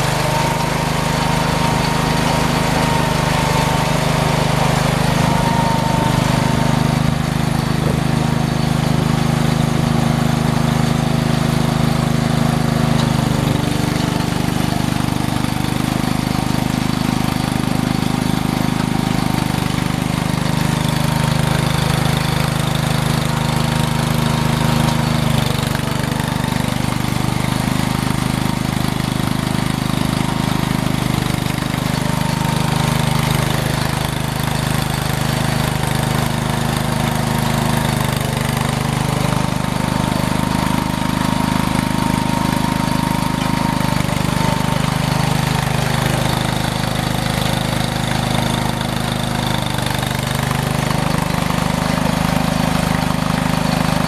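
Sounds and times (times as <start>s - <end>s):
snow-clearing machine engine: 0.0s - 54.0s.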